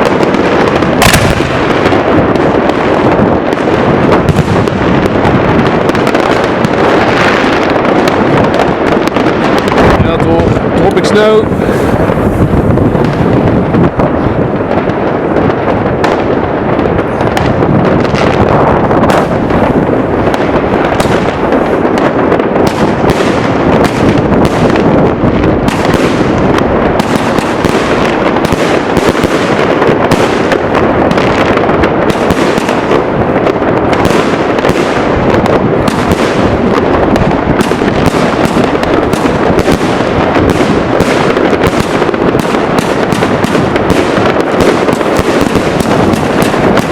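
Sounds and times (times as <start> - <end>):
firecrackers banging and crackling: 0.0 - 46.9.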